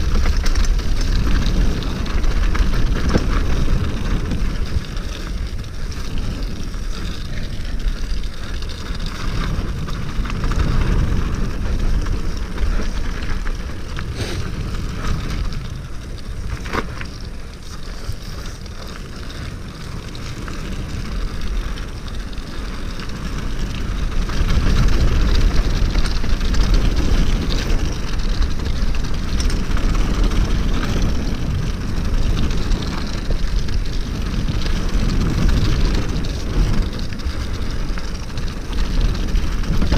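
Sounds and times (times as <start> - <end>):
mountain bike rattling: 0.0 - 39.9
tyres rolling over frozen dirt: 0.0 - 39.9
wind rushing over microphone: 0.0 - 39.9.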